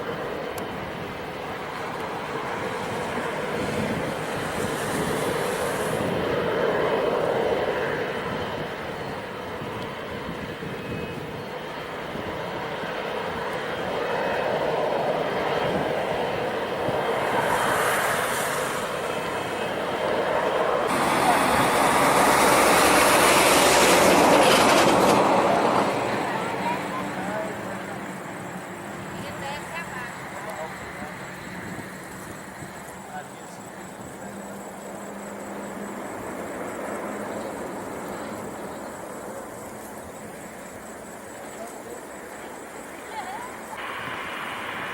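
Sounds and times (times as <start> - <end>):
jet engines rushing: 0.0 - 44.9.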